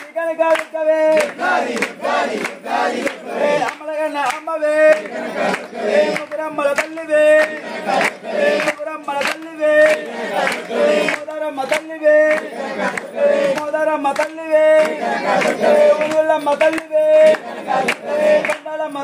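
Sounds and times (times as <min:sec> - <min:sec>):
crowd chanting in unison: 0:00.0 - 0:19.0
sharp rhythmic beats: 0:00.0 - 0:19.0.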